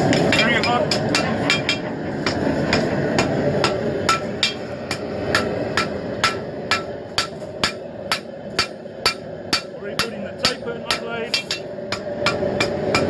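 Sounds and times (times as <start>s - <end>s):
hammer striking steel on anvil: 0.0s - 13.0s
steady rushing noise: 0.0s - 13.0s.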